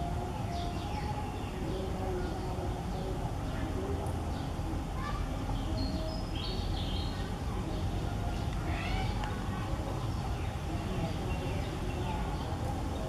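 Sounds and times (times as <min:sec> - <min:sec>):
faint high chirping calls: 0:00.0 - 0:13.0.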